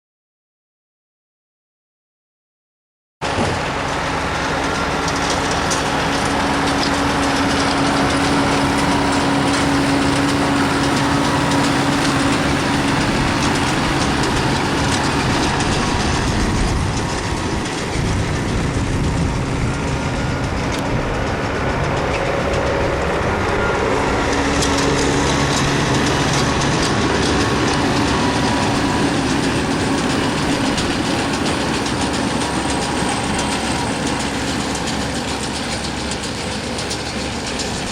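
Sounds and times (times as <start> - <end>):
dense noisy rumble: 3.2 - 37.9
engine running steadily: 3.2 - 37.9.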